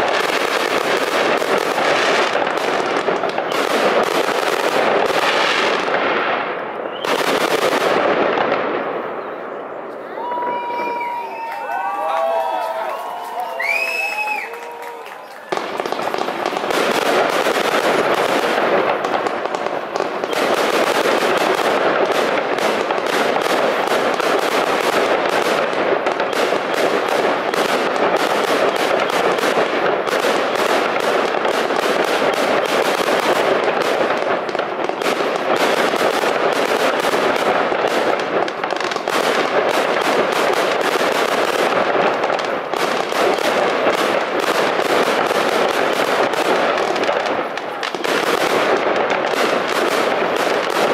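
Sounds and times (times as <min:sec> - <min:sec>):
fireworks bangs and crackle: 0:00.0 - 0:50.9.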